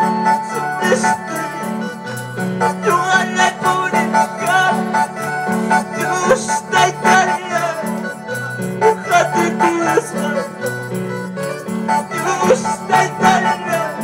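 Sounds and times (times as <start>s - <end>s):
worship band music through speakers: 0.0s - 14.0s.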